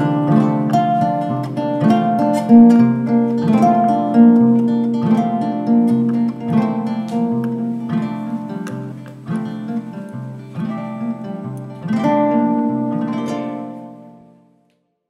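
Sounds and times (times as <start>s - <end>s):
plucked string instrumental music: 0.0s - 14.8s.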